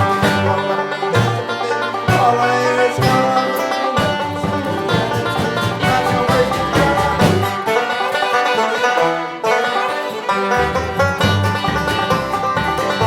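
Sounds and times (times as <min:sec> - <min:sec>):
fast banjo picking: 0:00.0 - 0:13.0
string band playing bluegrass: 0:00.0 - 0:13.0.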